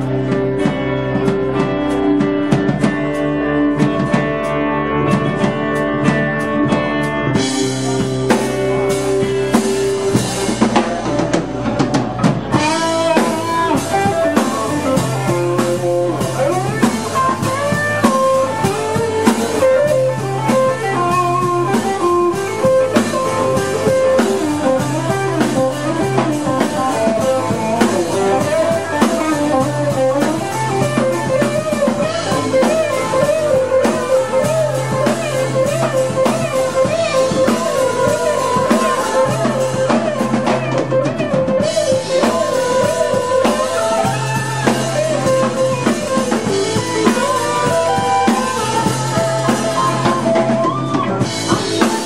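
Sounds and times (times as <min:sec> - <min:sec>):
electric guitar lead line: 0:00.0 - 0:52.0
live band playing: 0:00.0 - 0:52.0.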